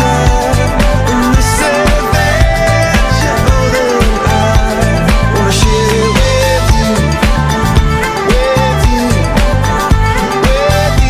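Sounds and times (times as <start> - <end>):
upbeat music with sliding melody: 0.0 - 11.0.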